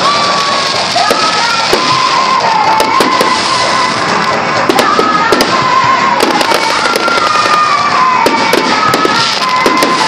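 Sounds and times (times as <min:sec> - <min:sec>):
fireworks popping and crackling: 0:00.0 - 0:10.0
hissing crackling of sparks: 0:00.0 - 0:10.0.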